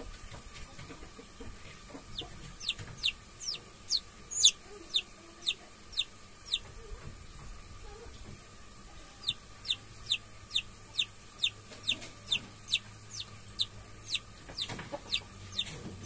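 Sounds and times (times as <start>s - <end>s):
chick peeping: 0.0s - 7.0s, 9.2s - 16.0s.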